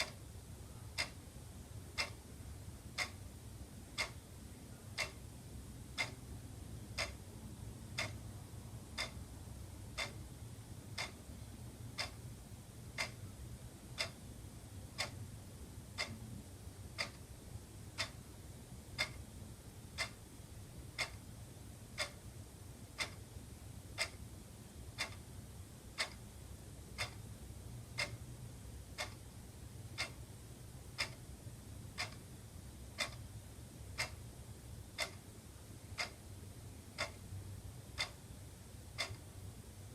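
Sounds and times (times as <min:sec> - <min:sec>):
faint low hum: 0:00.0 - 0:39.9
wall clock ticking: 0:00.0 - 0:39.9.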